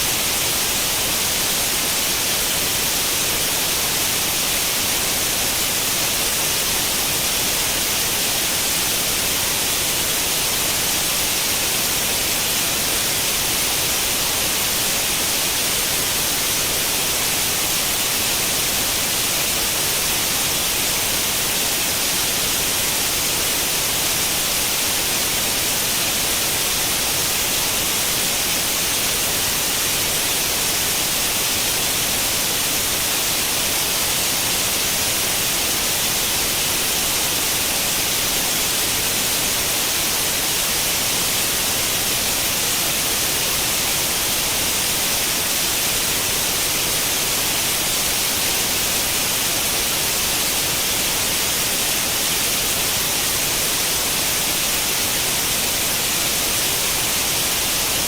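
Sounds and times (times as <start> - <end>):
steady white-noise hiss: 0.0 - 58.0.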